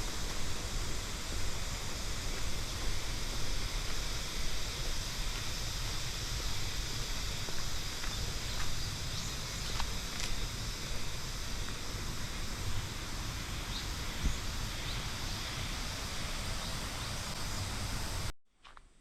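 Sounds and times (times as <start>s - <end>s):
outdoor hiss with low rumble: 0.0s - 19.0s.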